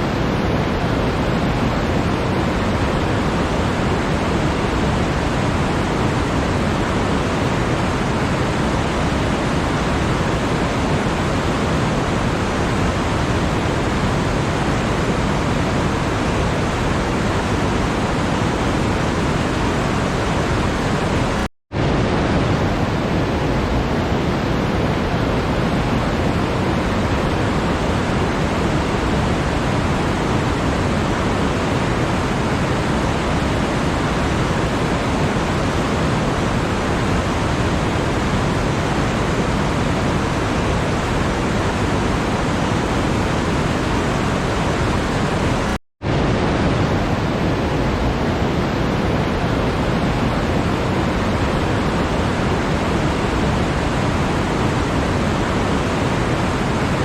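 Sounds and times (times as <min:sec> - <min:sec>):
steady rushing noise: 0:00.0 - 0:57.0.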